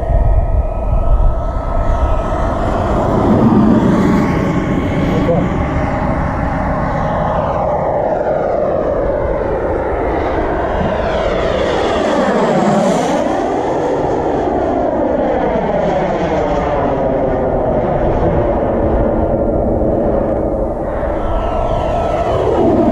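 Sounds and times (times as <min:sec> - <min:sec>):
model jet turbine whine: 0:00.0 - 0:22.9.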